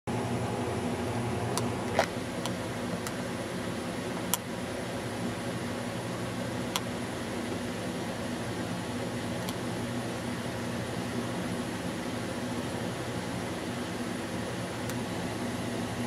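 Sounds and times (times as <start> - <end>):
low background hum: 0.1 - 16.0.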